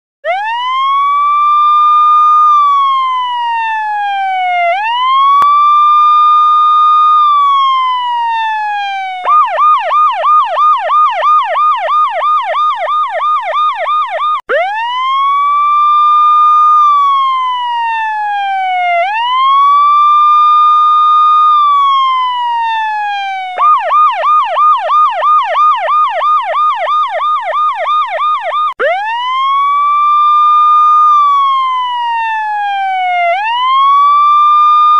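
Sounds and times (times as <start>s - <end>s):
electronic siren wailing and yelping: 0.2s - 34.9s.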